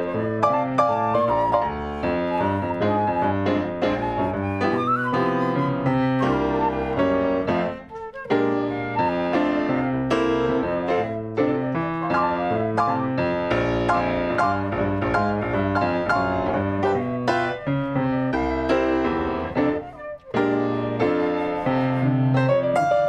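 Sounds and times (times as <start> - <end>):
piano duet playing swing jazz: 0.0 - 23.0.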